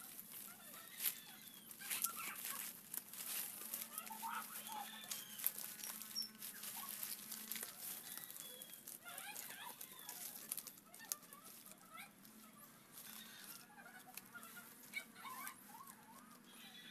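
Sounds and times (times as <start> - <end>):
palm leaves rustling and crackling: 0.0 - 16.9.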